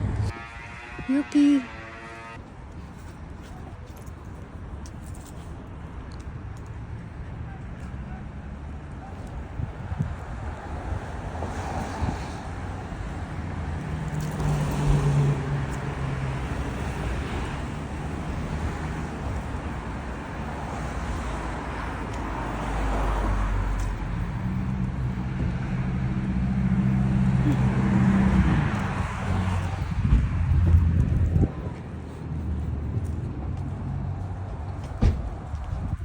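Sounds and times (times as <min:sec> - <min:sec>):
road traffic noise: 0:00.0 - 0:36.0
vehicle engine hum: 0:00.0 - 0:36.0.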